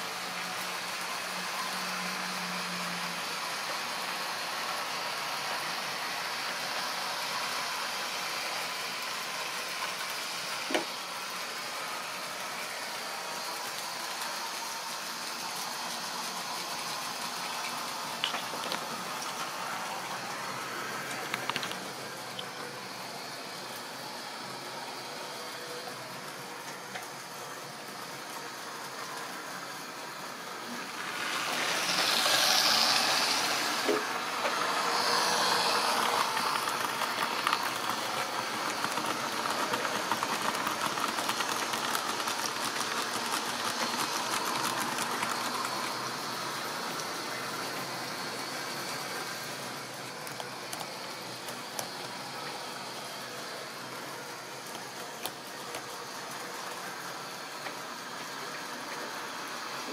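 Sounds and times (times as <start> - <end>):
model trains whirring and rattling: 0.0 - 59.9.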